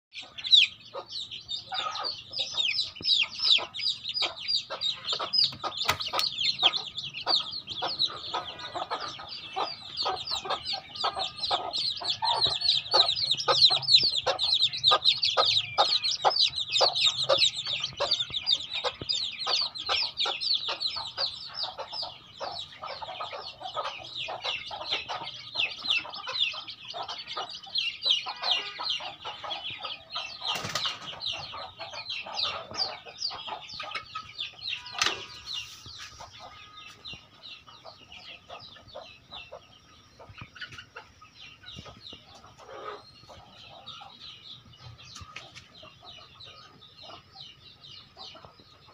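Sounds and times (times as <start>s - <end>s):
chicks peeping: 0.1s - 48.9s
hens clucking: 0.2s - 48.9s.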